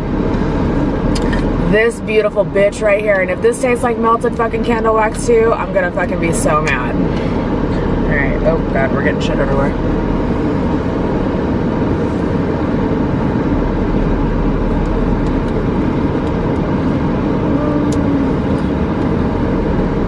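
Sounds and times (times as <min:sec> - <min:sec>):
stationary car rumble and hiss: 0:00.0 - 0:20.0.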